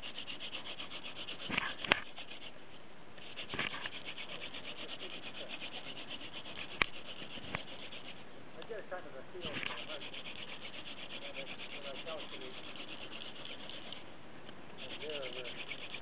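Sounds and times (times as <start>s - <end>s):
hand drill rasping on wood: 0.0s - 2.5s, 3.2s - 8.2s, 9.4s - 14.0s, 14.8s - 16.0s.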